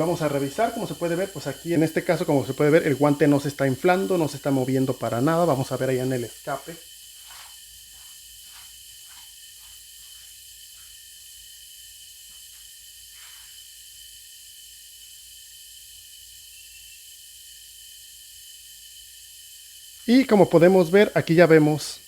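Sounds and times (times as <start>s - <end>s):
compressed air hissing: 0.0s - 22.0s.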